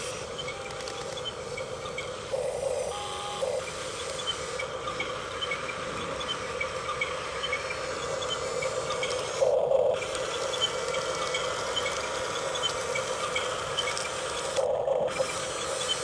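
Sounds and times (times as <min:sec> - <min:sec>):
toy motors whirring: 0:00.0 - 0:16.0.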